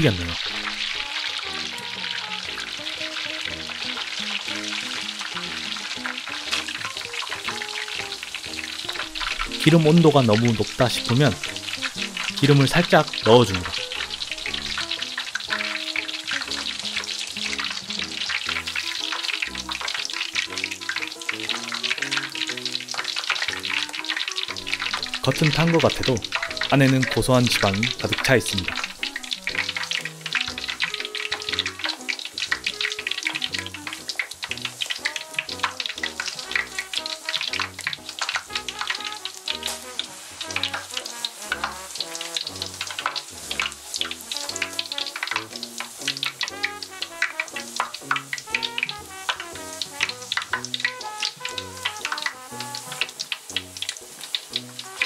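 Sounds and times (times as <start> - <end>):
background music: 0.0 - 55.0
deep-frying sizzle: 0.0 - 55.0.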